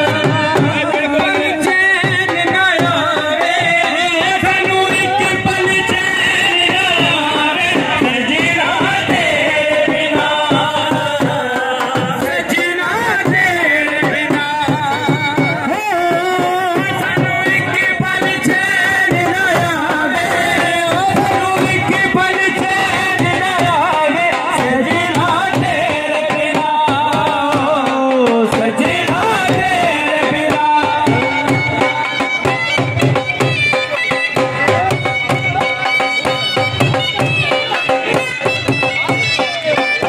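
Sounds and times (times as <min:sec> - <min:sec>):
men singing folk song: 0:00.0 - 0:32.2
dhol drum beat: 0:00.0 - 0:40.0.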